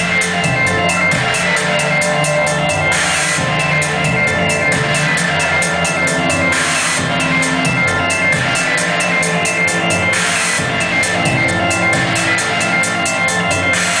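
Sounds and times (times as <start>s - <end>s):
wall of guitar and electronics: 0.0s - 14.0s.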